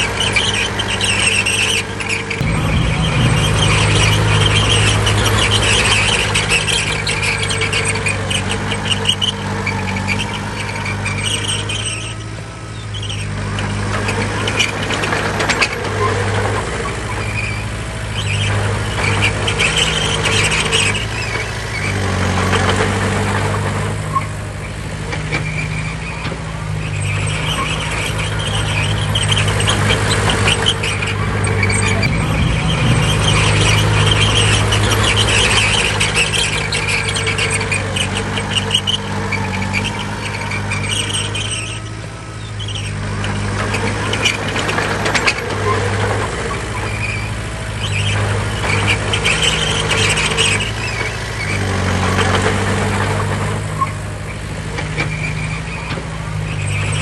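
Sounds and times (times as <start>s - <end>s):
diesel engine drone: 0.0s - 57.0s
metallic rattling: 0.0s - 57.0s.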